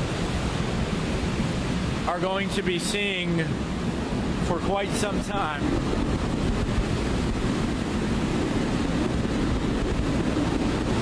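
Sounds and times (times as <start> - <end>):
loud hurricane winds: 0.0 - 11.0
wind gusts buffeting microphone: 0.0 - 11.0.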